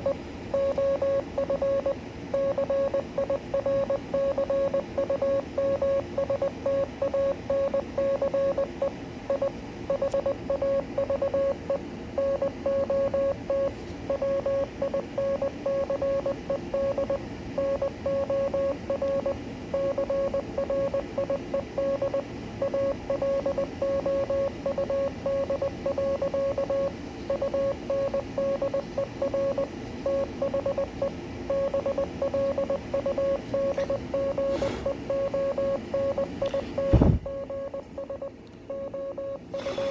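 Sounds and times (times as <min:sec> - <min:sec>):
morse code beeping tone: 0:00.0 - 0:39.9.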